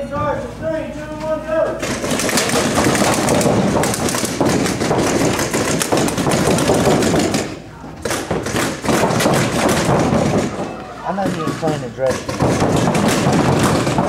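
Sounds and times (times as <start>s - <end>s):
paintball markers firing: 1.8s - 14.0s.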